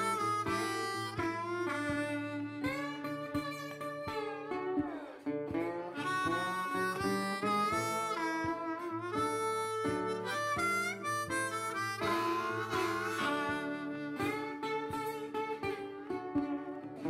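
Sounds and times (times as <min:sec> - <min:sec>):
harmonica melody: 0:00.0 - 0:17.0
plucked acoustic guitar: 0:00.0 - 0:17.0.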